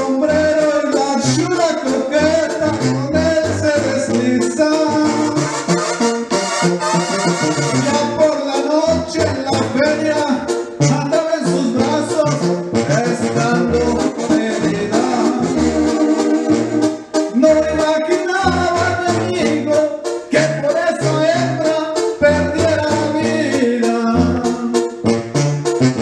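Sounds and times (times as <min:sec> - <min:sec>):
man singing into a microphone: 0:00.0 - 0:05.6, 0:07.8 - 0:16.1, 0:17.3 - 0:25.0
karaoke backing track: 0:00.0 - 0:26.0.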